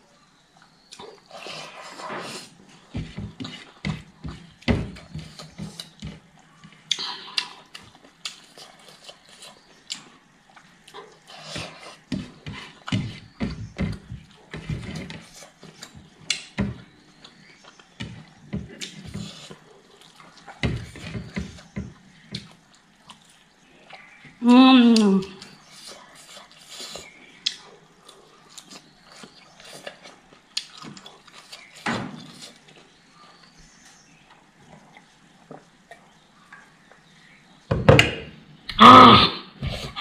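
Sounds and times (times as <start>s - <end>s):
chewing: 0.5s - 37.2s.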